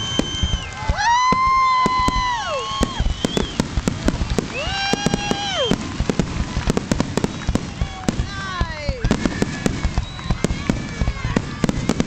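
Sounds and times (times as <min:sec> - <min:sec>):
firework bursts and crackling: 0:00.0 - 0:12.0
spectators whooping: 0:00.0 - 0:12.0.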